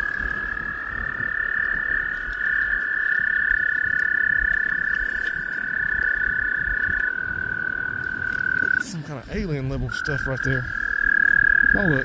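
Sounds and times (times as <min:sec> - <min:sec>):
toads trilling: 0:00.0 - 0:12.0.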